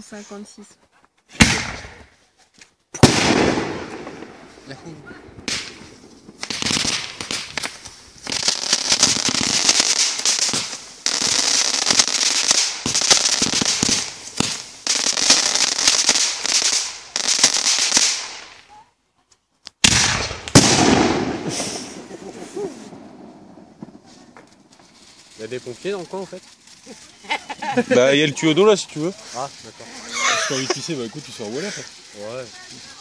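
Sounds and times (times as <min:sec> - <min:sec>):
fireworks crackling: 0:01.3 - 0:33.0.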